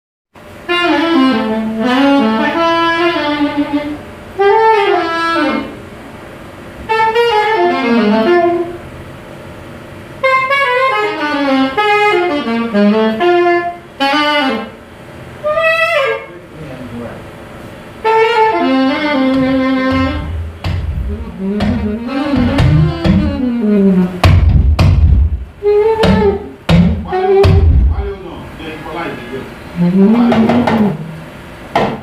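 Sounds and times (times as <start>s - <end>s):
solo saxophone played softly: 0.5s - 6.0s, 6.8s - 8.9s, 10.2s - 14.8s, 15.4s - 17.1s, 18.0s - 24.5s, 25.5s - 28.2s, 28.9s - 31.5s.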